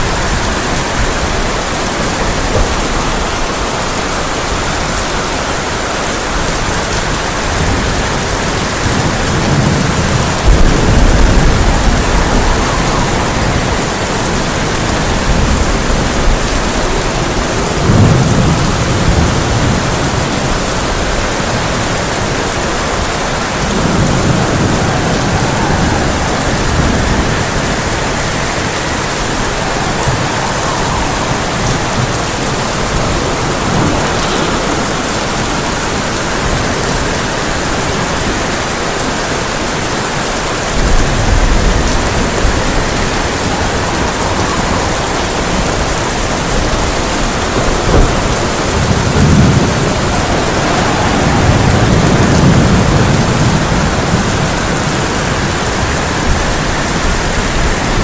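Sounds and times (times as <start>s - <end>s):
heavy rain on a tin roof: 0.0s - 58.0s
thunder rumbling: 0.0s - 58.0s.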